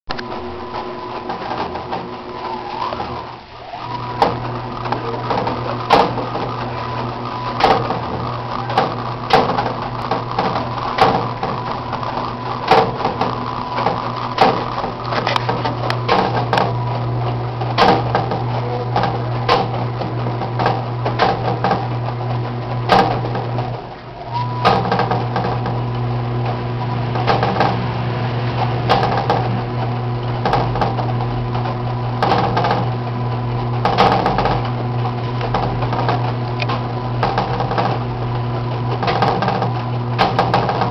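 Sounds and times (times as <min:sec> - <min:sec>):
mechanical clack: 0:00.1 - 0:40.9
washing machine motor hum: 0:00.1 - 0:40.9.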